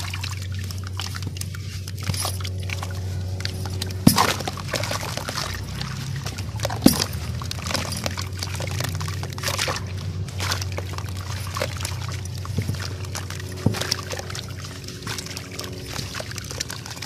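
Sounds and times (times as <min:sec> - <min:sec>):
muddy water sloshing and dripping: 0:00.0 - 0:17.0
sharp splashes: 0:00.0 - 0:17.0
steady low hum: 0:00.0 - 0:17.0.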